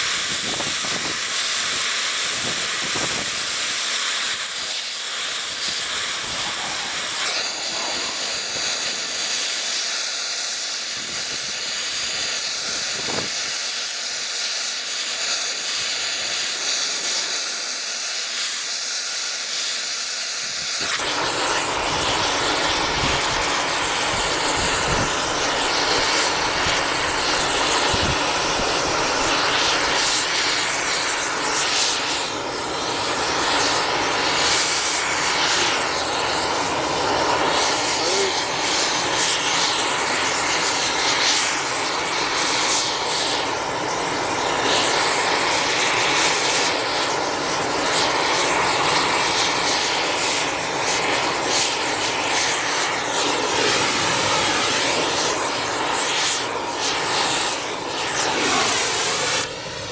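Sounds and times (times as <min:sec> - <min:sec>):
heating torch hissing: 0:00.0 - 0:59.9.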